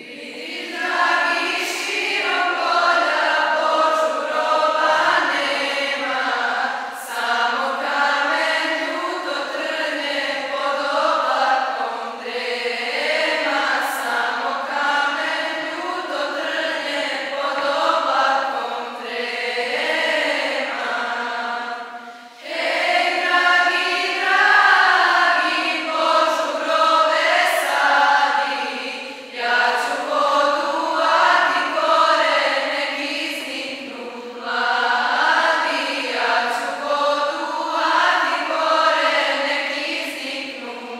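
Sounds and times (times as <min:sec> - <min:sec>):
choir singing a slow religious song: 0:00.0 - 0:40.9.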